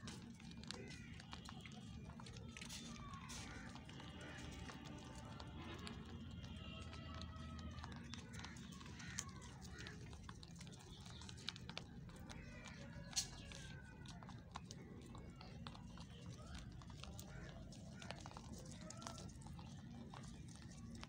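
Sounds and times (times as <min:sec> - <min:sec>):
rabbits crunching dry feed: 0:00.0 - 0:21.0.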